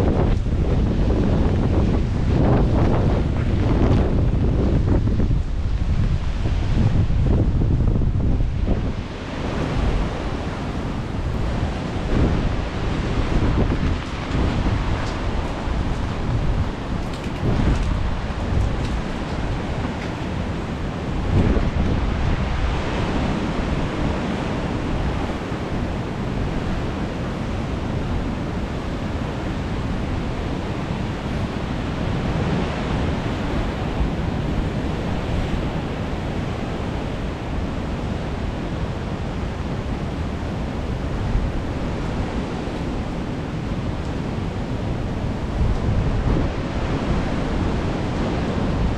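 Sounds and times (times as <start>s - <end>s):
sea surf rushing: 0.0s - 48.9s
wind buffeting microphone: 0.0s - 48.9s.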